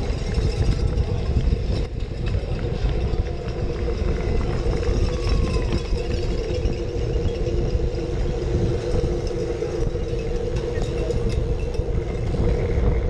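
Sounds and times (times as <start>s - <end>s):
bike road noise: 0.0s - 13.0s
wind rumble: 0.0s - 13.0s.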